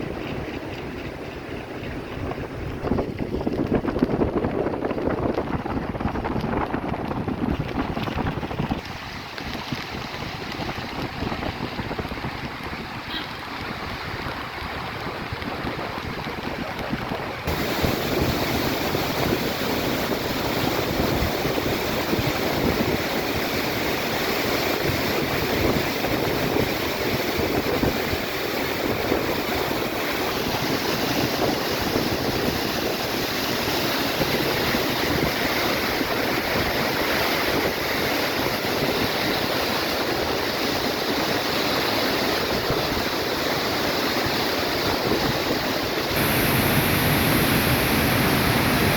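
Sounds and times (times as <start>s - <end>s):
waterfall gushing into pool: 6.4s - 48.9s.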